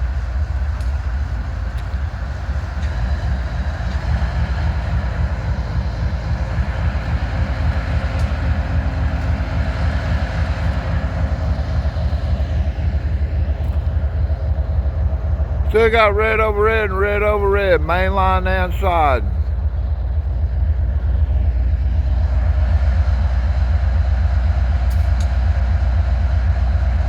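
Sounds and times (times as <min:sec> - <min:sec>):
diesel locomotives rumbling: 0:00.0 - 0:27.0.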